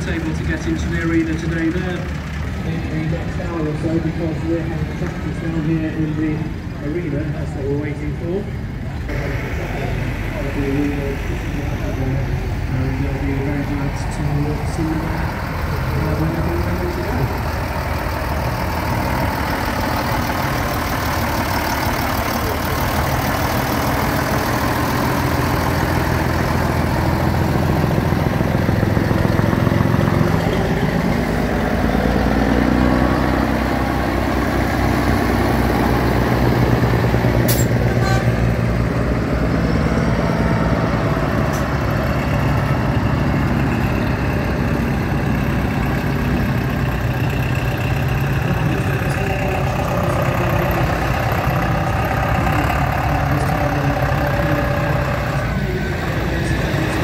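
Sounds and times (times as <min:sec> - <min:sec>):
heavy vehicle engine idling: 0:00.0 - 0:57.0.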